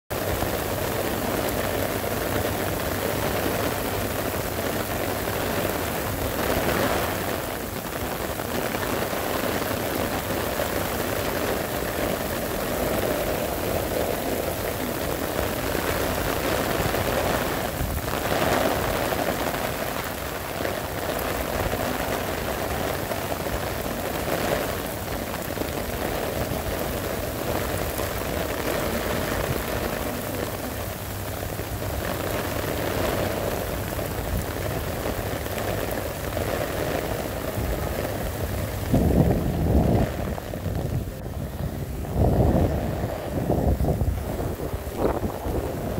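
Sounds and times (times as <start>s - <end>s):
heavy rain on pavement: 0.0s - 45.9s.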